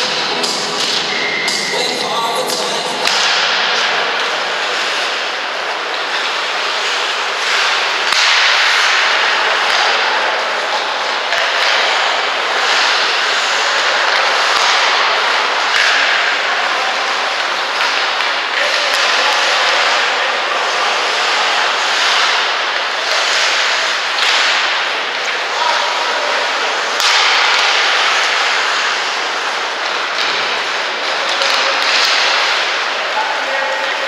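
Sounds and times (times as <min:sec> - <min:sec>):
clicks of sticks or puck: 0:00.0 - 0:01.7, 0:02.5 - 0:34.0
skate blades scraping ice: 0:00.0 - 0:34.0.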